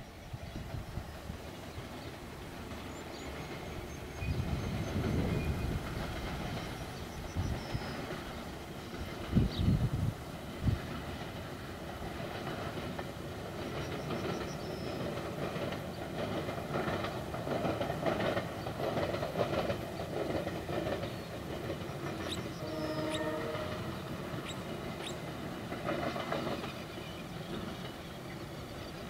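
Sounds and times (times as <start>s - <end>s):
train wheels clicking over rail joints: 0.2s - 29.0s.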